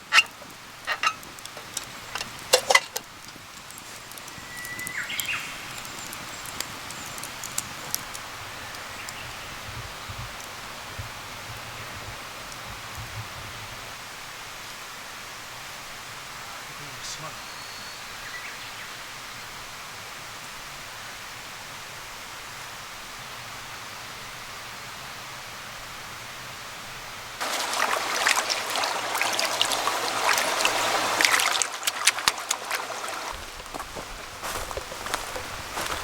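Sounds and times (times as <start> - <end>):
campfire crackling and sizzling: 0.0 - 36.0.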